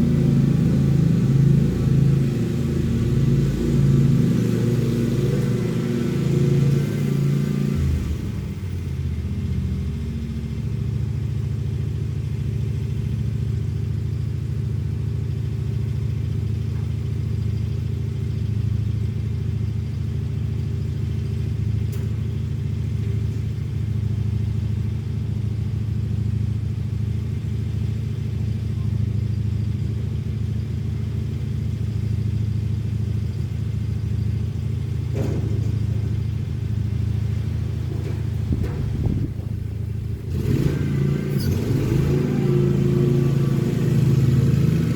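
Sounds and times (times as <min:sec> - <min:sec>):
lawn mower engine running: 0:00.0 - 0:18.0, 0:20.4 - 0:44.9.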